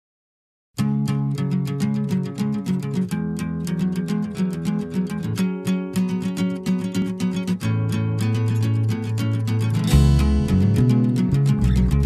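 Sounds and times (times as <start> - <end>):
plucked guitar music: 0.8 - 12.0.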